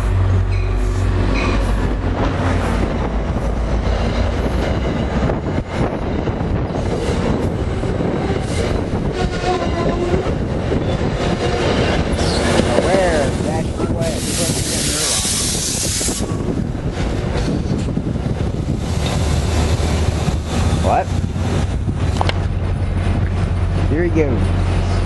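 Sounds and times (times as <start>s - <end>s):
locomotive engine hum: 0.0s - 25.0s
train wheel rumble: 0.0s - 25.0s.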